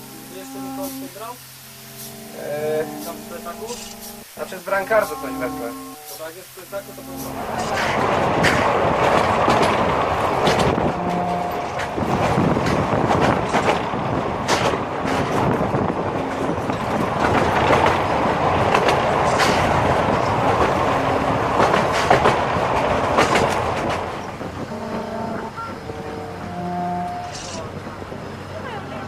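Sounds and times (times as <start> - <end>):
railway carriage running noise: 0.0 - 29.0
train wheels clicking over rail joints: 2.9 - 28.6.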